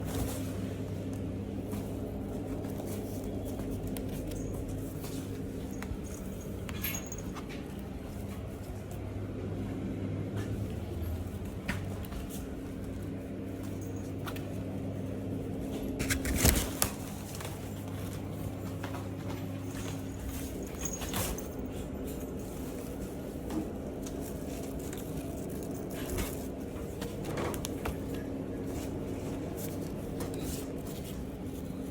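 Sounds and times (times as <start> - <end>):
kittens tapping and scuffling: 0.0 - 9.1, 10.3 - 31.9
low room hum: 0.0 - 31.9.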